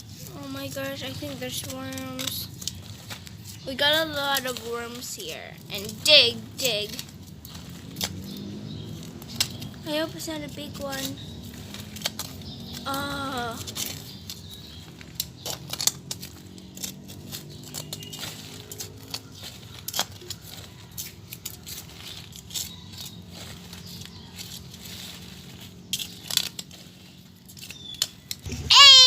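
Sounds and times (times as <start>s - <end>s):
digging tool scraping soil: 0.0s - 29.0s.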